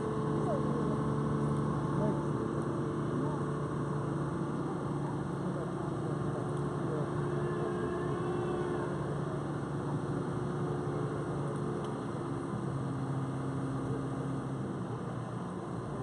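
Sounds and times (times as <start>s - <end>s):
diesel engines running: 0.0s - 16.0s.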